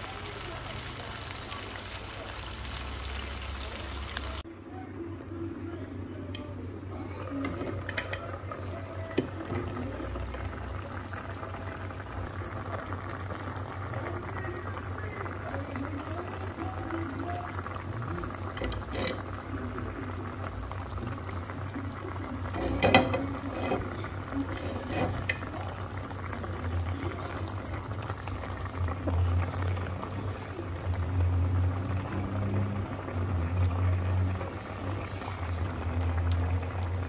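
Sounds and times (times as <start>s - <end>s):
food bubbling and sizzling: 0.0s - 4.5s, 6.8s - 37.0s.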